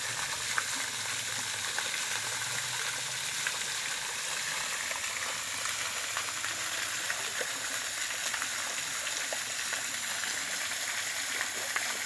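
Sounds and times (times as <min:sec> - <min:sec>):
small ticks and drips: 0:00.0 - 0:12.0.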